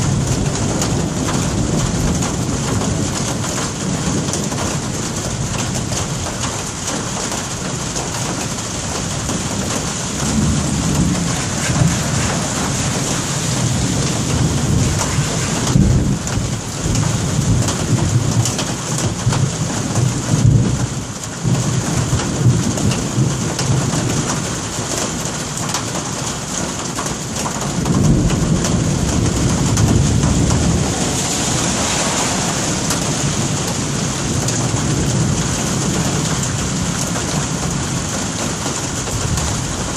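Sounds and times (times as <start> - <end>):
thunder rumbling: 0.0 - 25.7, 27.6 - 39.9
steady rain: 0.0 - 39.9.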